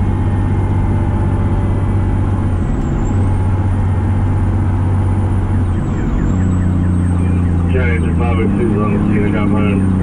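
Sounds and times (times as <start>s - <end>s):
fire truck diesel engine running: 0.0s - 10.0s
tyres and wind rumble: 0.0s - 10.0s.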